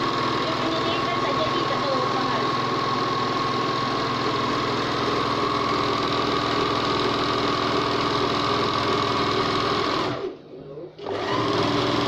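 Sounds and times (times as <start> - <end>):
overlock machine whirring: 0.0 - 10.4, 11.0 - 12.0.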